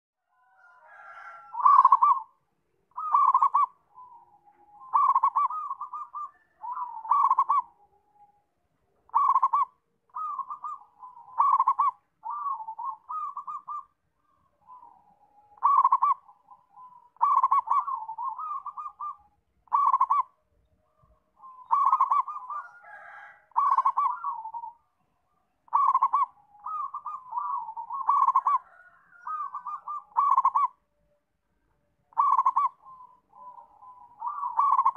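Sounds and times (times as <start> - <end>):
dove cooing: 0.4 - 8.3, 9.0 - 24.9, 25.7 - 30.8, 32.1 - 34.9.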